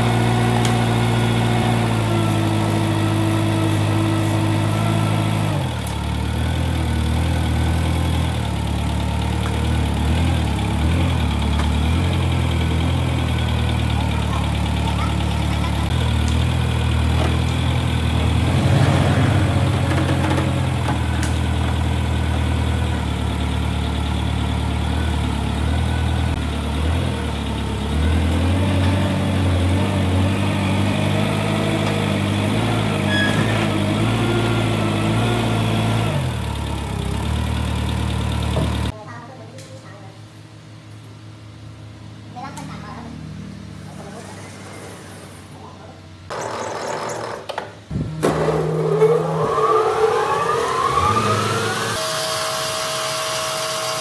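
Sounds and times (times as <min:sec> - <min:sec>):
engine running at low revs: 0:00.0 - 0:38.9, 0:47.9 - 0:54.0.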